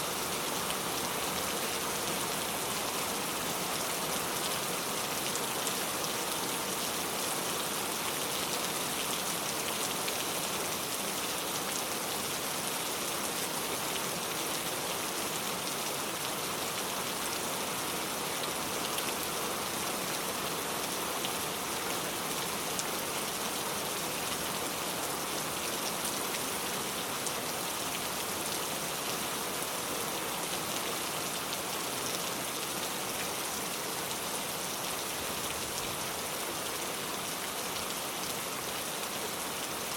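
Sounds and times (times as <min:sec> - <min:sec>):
rain drops pattering on surfaces: 0:00.1 - 0:39.9.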